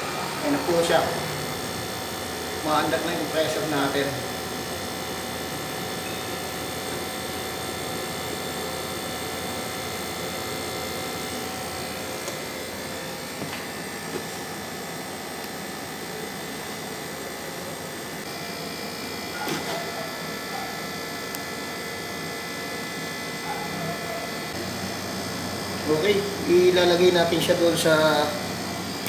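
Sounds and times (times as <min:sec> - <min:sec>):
air conditioner humming: 0:00.0 - 0:29.0.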